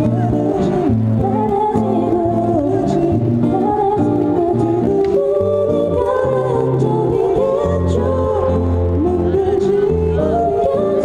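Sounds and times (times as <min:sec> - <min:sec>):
bass notes: 0:00.0 - 0:11.0
person singing into microphone: 0:00.0 - 0:11.0
strummed acoustic guitars: 0:00.0 - 0:11.0.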